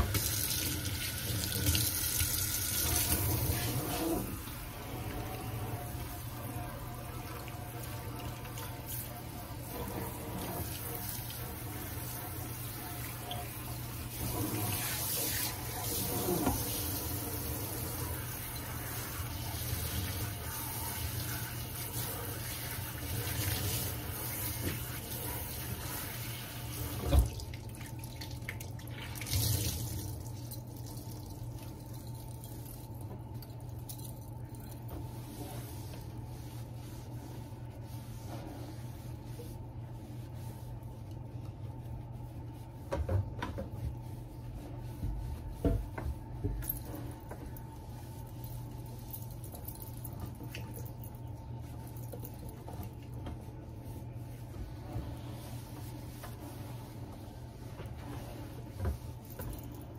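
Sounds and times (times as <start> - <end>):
cloth scrubbing sink: 0.0 - 59.9.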